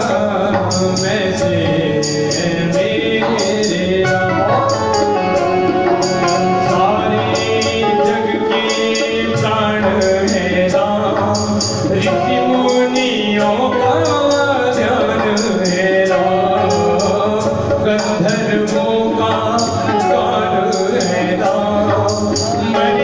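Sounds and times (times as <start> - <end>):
man singing into a microphone: 0.0 - 23.0
music with steady beat: 0.0 - 23.0.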